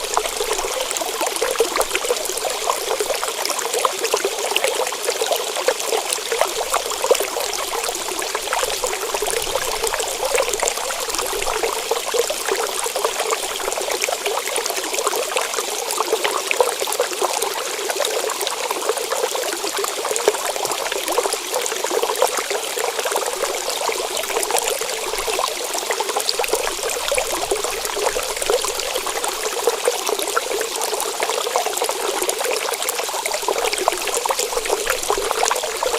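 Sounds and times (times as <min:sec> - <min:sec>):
stream trickling and babbling: 0:00.0 - 0:35.9.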